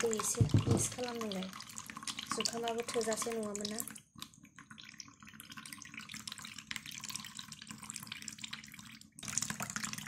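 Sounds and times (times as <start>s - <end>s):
liquid trickling into plastic bowl: 0.0s - 10.0s.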